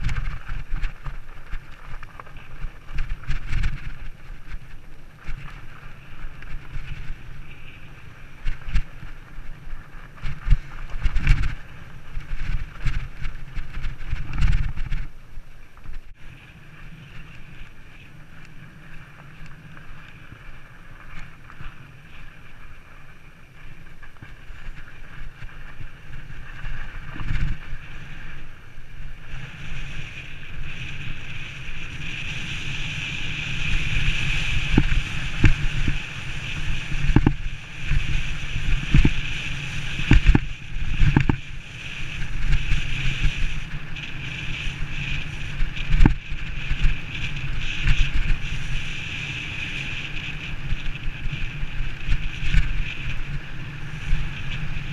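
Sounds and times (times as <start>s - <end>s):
camera ride noise: 0.0s - 54.9s
rushing wind: 0.0s - 54.9s.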